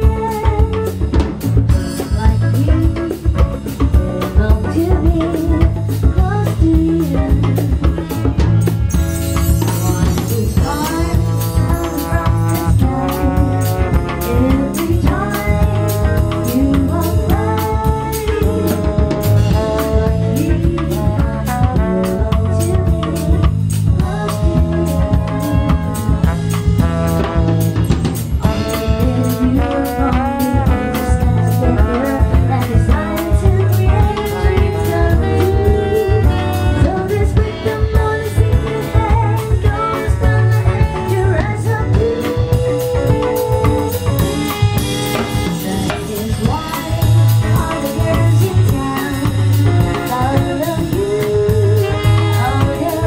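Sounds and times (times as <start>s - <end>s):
person singing: 0.0s - 8.5s, 9.4s - 26.2s, 28.4s - 53.0s
drum kit: 0.0s - 53.0s
electric guitar: 0.0s - 53.0s
trombone: 0.0s - 53.0s.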